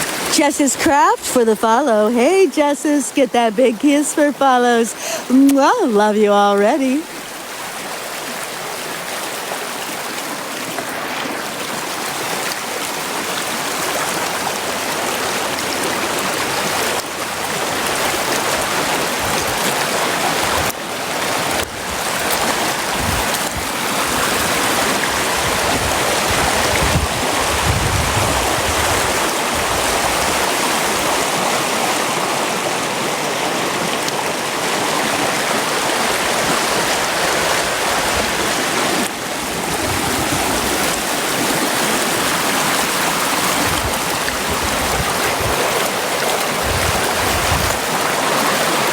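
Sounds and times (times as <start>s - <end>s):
brook rushing water: 0.0s - 48.9s.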